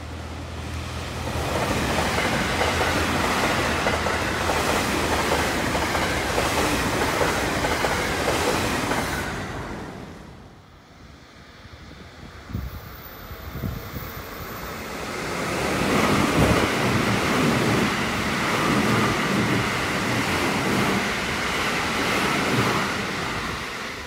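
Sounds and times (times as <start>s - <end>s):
train rushing past: 0.0s - 24.0s.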